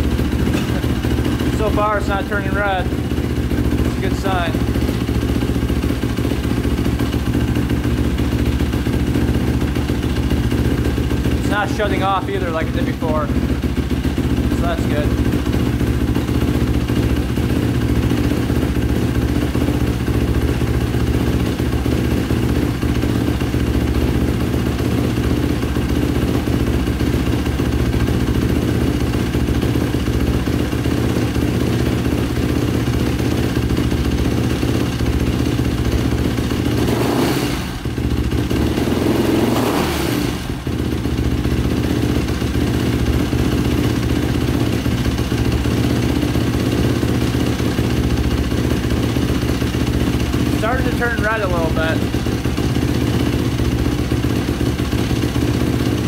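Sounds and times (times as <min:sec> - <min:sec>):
single-cylinder engine idling: 0:00.0 - 0:56.0.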